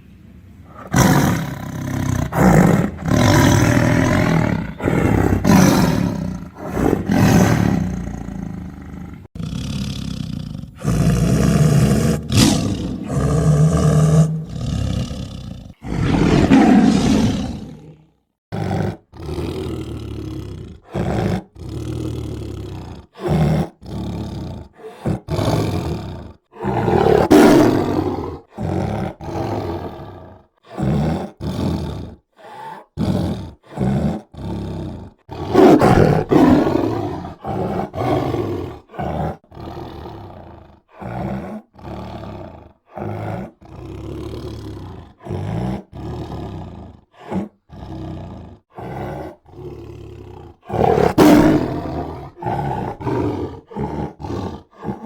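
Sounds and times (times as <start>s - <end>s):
tiger roaring and growling: 0.7s - 55.0s.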